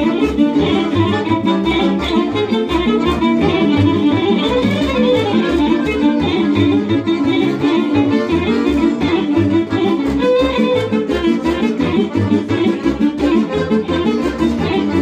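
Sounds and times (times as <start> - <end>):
double bass plucked: 0.0 - 15.0
fast violin melody: 0.0 - 15.0.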